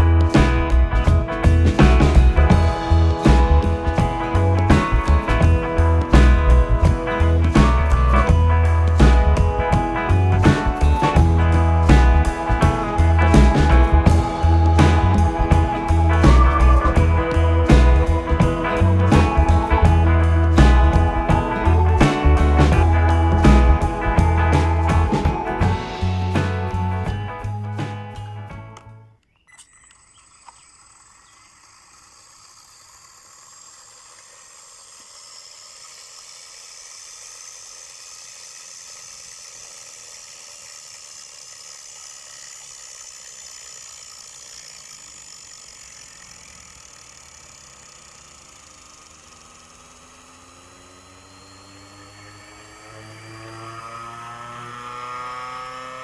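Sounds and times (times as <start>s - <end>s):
electric motor whine: 0.0s - 27.2s, 29.5s - 56.0s.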